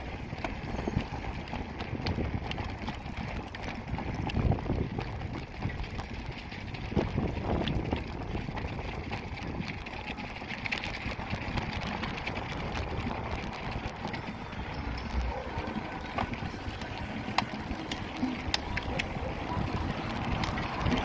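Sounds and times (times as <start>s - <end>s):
bicycle rattling over cobblestones: 0.0s - 21.0s
bike clicks: 0.0s - 21.0s.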